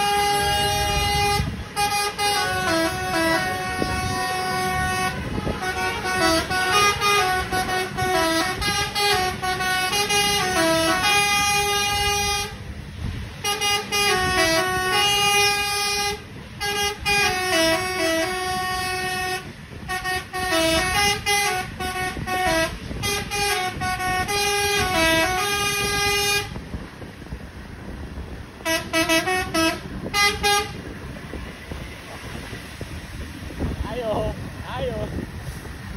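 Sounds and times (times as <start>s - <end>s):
bus musical horn melody: 0.0s - 27.1s, 28.6s - 31.4s
bus engine rumble: 0.0s - 35.9s.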